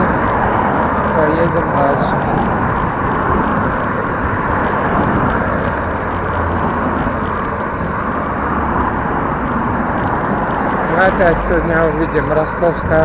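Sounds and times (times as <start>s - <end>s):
bicycle tyres rolling: 0.0s - 13.0s
wind across microphone: 0.0s - 13.0s.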